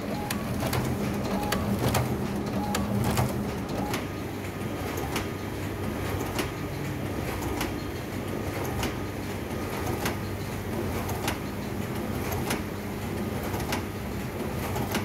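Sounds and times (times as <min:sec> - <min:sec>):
printer running: 0:00.0 - 0:15.0.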